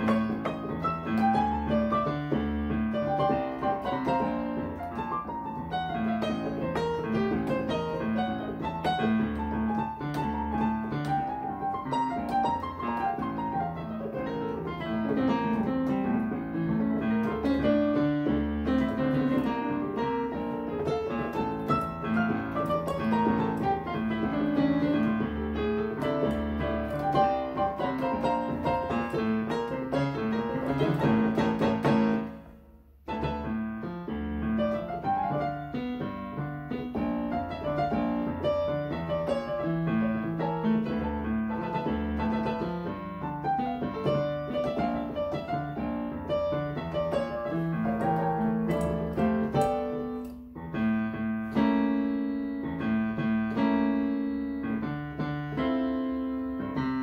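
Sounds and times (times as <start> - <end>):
salsa piano playing: 0.0 - 57.0.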